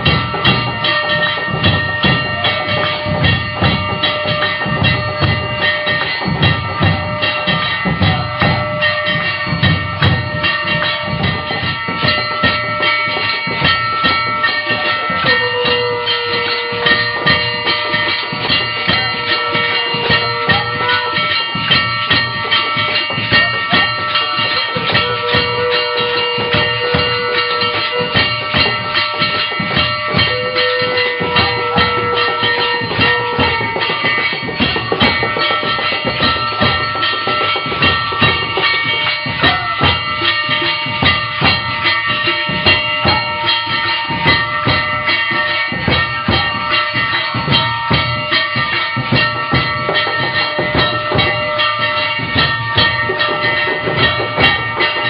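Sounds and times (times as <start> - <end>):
drums and percussion rhythm: 0.0 - 55.0
sustained ringing tones: 0.0 - 55.0.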